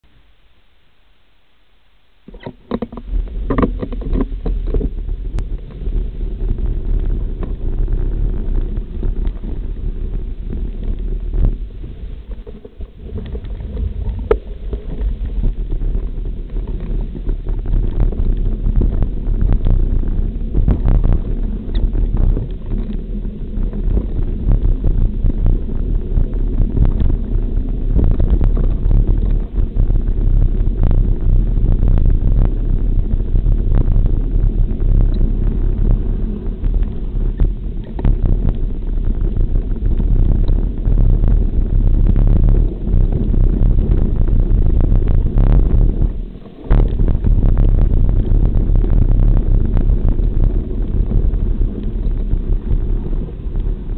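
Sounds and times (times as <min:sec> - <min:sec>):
wind buffeting microphone: 0:02.3 - 0:53.9.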